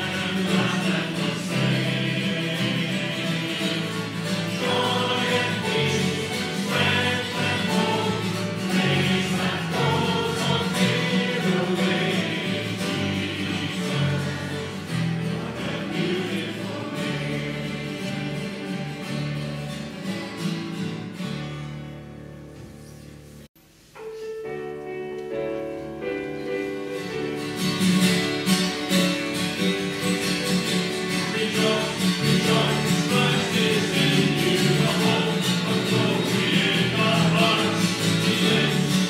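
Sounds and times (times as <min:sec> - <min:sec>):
music with choir singing: 0:00.0 - 0:22.7, 0:25.2 - 0:39.0.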